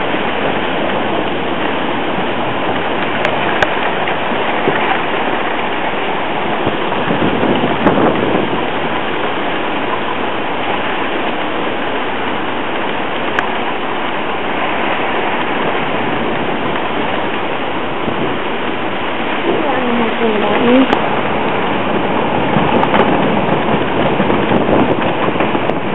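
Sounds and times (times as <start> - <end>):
heavy rain and wind: 0.0 - 25.9.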